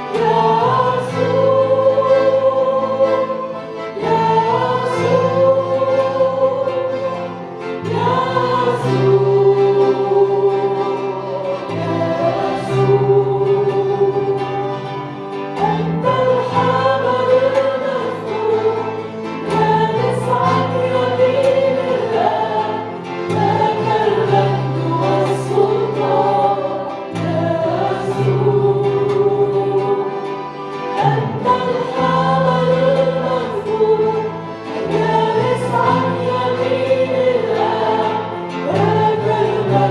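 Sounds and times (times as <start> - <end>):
congregation singing: 0.0 - 39.9
instrumental accompaniment chords: 0.0 - 39.9.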